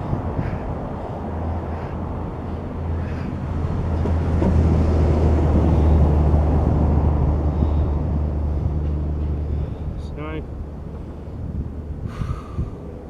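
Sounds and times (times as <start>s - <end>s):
motor vehicle engine rumble: 0.0s - 13.0s.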